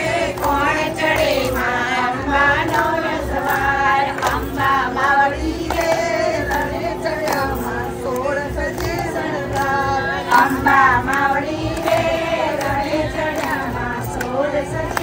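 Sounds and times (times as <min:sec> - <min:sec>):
voices singing in chorus: 0:00.0 - 0:15.0.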